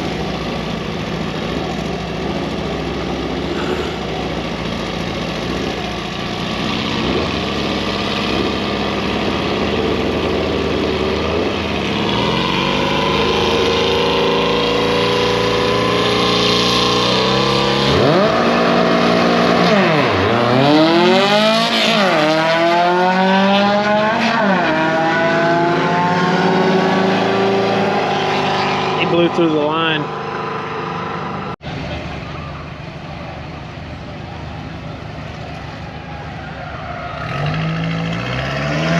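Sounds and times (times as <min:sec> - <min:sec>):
drag car engine revving: 0:00.0 - 0:33.7, 0:34.5 - 0:38.9.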